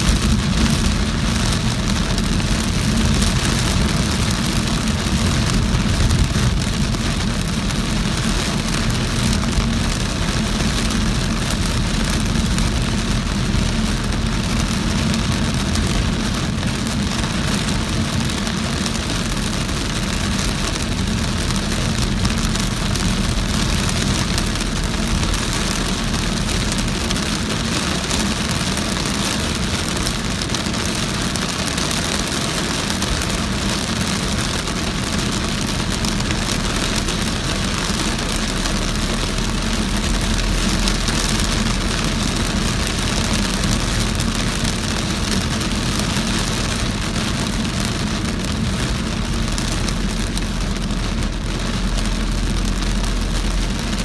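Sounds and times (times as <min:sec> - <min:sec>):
car engine: 0:00.0 - 0:54.0
rain falling on car: 0:00.0 - 0:54.0
tyres on wet road: 0:00.0 - 0:54.0.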